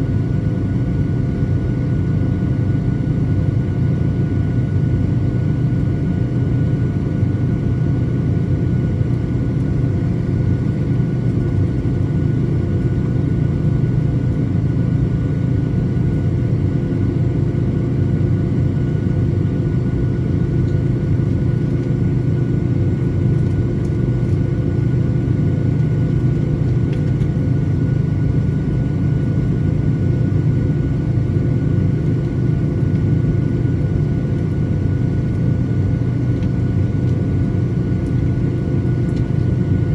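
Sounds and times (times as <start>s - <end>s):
jet engines low rumble and whine: 0.0s - 39.9s.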